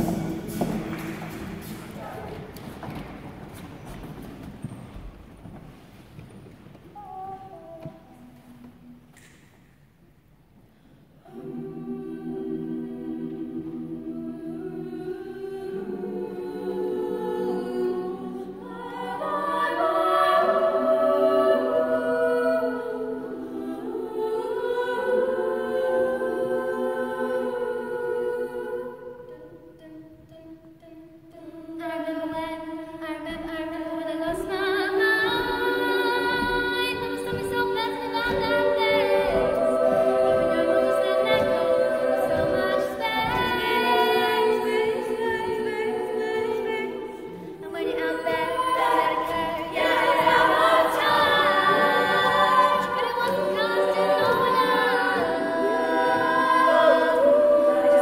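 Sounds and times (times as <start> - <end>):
female choir singing in harmony: 0.0 - 9.6, 10.6 - 58.0.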